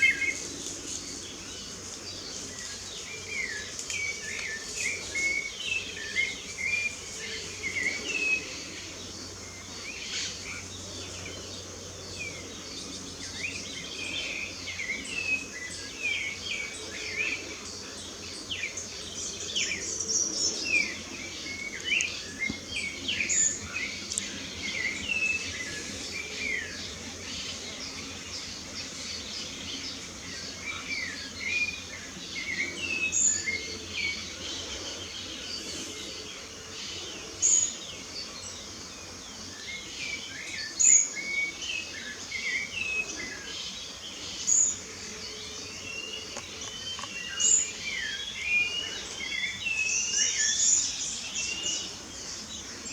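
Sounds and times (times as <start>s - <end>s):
birds singing and chirping: 0.0s - 52.9s.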